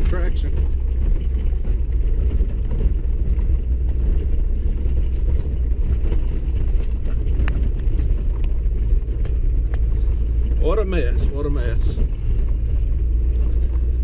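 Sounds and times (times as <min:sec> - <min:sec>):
vehicle rumbling over snow: 0:00.0 - 0:14.0.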